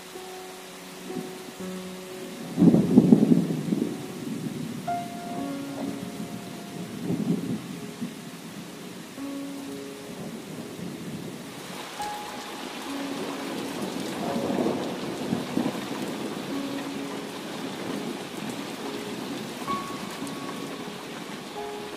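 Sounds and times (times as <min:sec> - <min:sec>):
heavy rain on water: 0:00.0 - 0:21.9
thunder rumbles: 0:02.2 - 0:09.2, 0:10.1 - 0:21.9.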